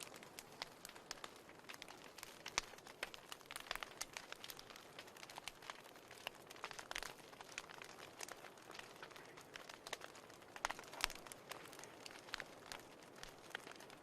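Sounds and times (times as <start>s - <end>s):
faint steady hiss: 0.0s - 14.0s
wood fire crackling: 0.0s - 14.0s.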